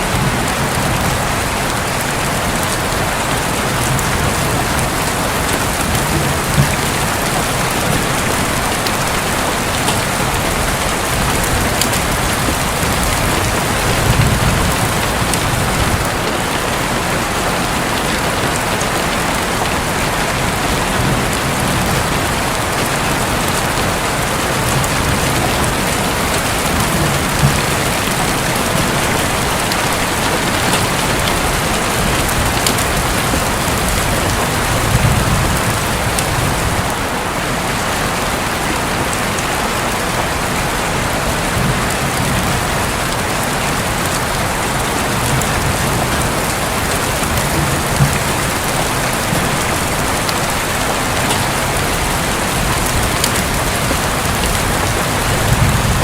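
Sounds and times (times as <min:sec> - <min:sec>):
distant thunder rumbles: 0:00.0 - 0:37.1, 0:44.2 - 0:56.0
heavy rain on a roof: 0:00.0 - 0:56.0.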